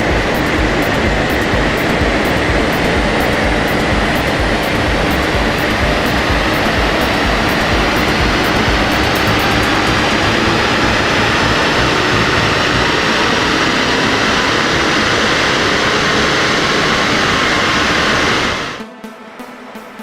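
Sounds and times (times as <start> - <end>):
diesel engine on dynamometer: 0.0 - 18.8.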